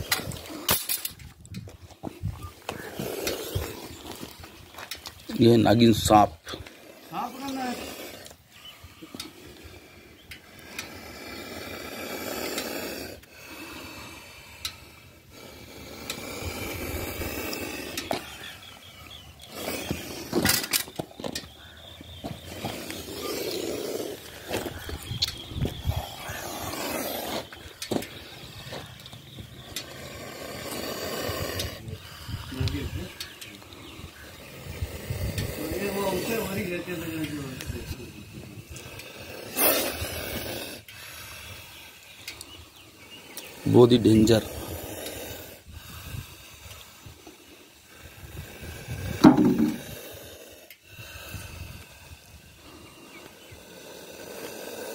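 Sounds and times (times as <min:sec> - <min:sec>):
snake hissing: 0:00.0 - 0:01.3, 0:02.1 - 0:54.9.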